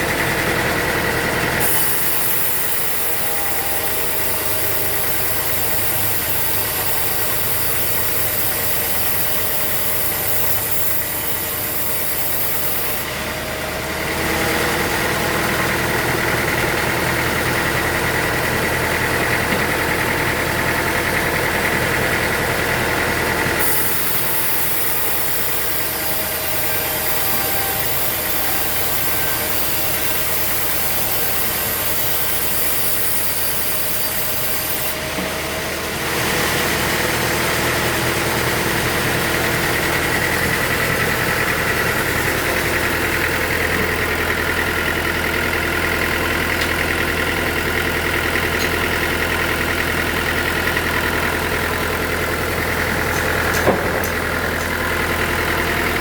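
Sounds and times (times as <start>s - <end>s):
sawmill machinery motor drone: 0.0s - 56.0s.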